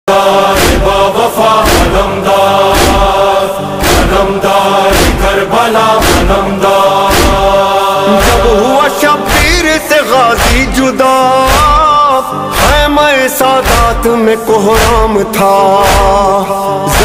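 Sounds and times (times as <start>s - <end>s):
heavy beat: 0.5s - 17.0s.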